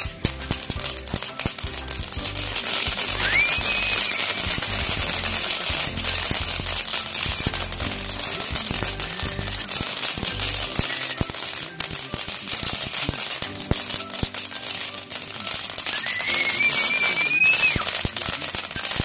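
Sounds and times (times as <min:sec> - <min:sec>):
firework whistle: 0:00.0 - 0:19.0
fireworks crackling and popping: 0:00.0 - 0:19.0
music playing: 0:00.0 - 0:19.0.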